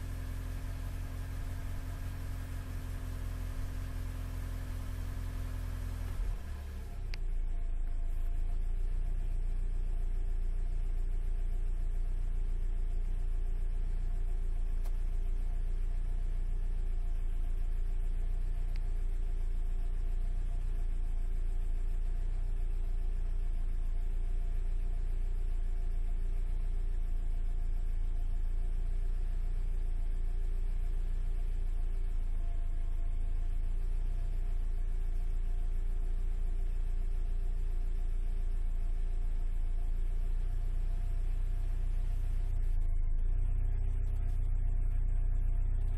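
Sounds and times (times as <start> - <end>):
engine and road noise rumble: 0.0 - 45.9.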